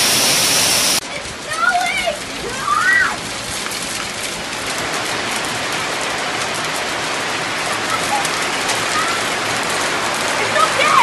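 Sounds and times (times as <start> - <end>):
rain hissing: 0.0 - 11.0
hailstones ticking on surfaces: 0.9 - 11.0.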